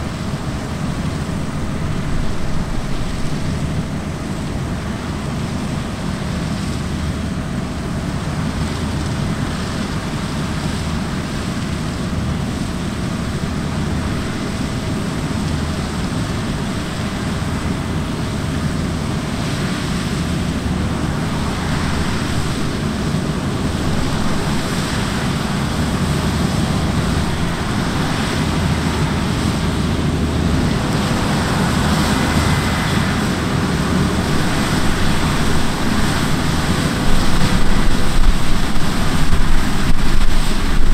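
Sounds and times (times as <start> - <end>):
diesel farm machinery running: 0.0 - 40.9
wind on microphone: 0.0 - 40.9.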